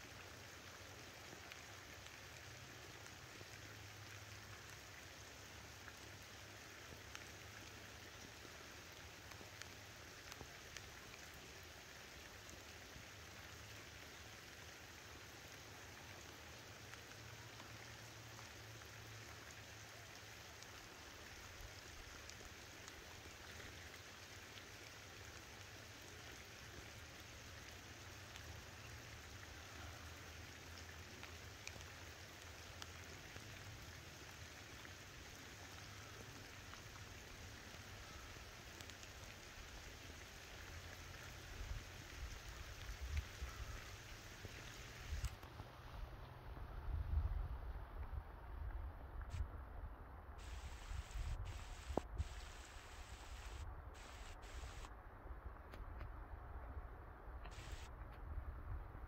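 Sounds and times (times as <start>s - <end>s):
light rain patter: 0.0s - 59.0s.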